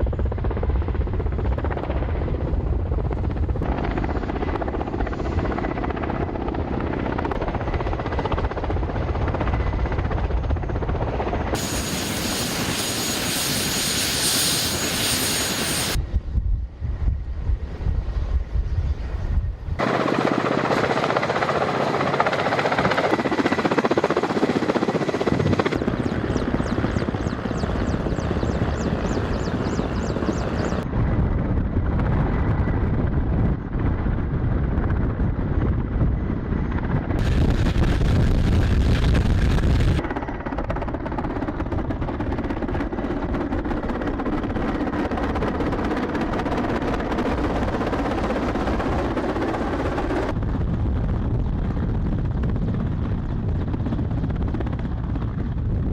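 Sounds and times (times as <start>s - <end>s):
helicopter rotors and turbines: 0.0s - 55.9s.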